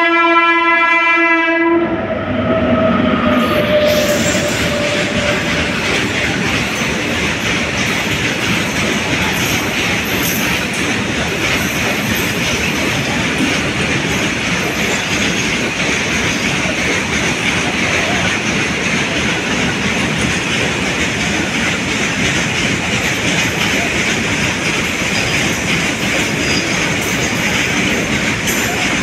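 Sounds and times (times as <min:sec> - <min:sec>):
train wheels on rails: 0:02.0 - 0:29.0.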